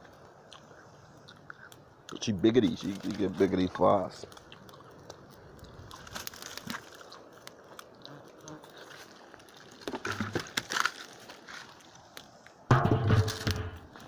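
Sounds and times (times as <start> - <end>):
piglet chewing and crunching food: 0.0 - 12.6.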